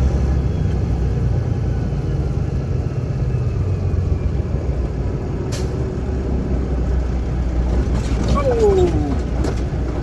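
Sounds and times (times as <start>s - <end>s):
diesel truck engine rumbling: 0.0s - 10.0s.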